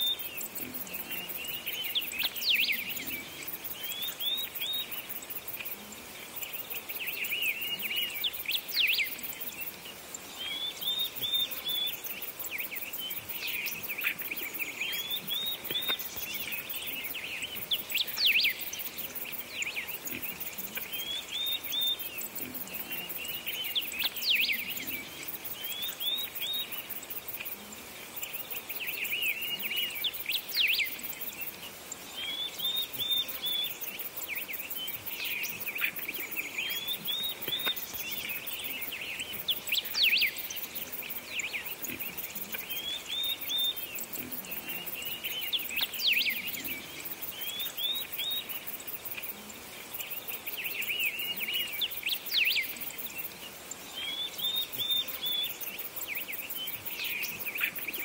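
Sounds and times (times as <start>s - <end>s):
birds chirping: 0.0s - 58.0s
steady hiss: 0.0s - 58.0s.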